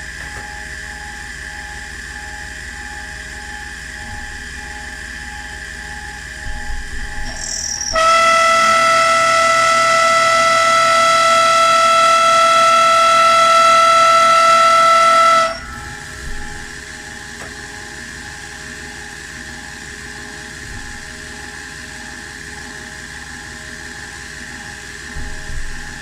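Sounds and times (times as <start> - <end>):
milling machine whining: 0.0 - 26.0.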